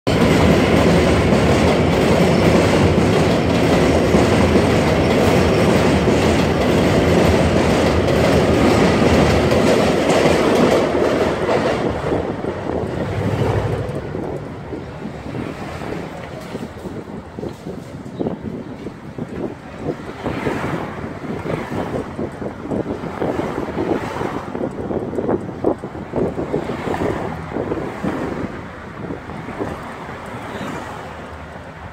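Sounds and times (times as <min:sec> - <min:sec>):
elevated train passing overhead: 0:00.1 - 0:31.9.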